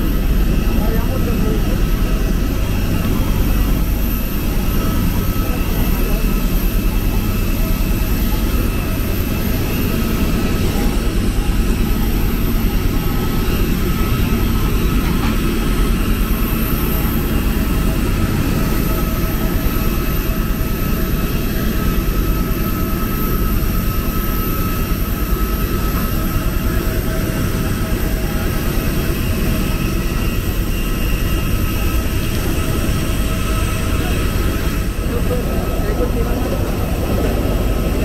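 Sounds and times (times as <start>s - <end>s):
airliner engines rumbling in cabin: 0.0s - 38.0s.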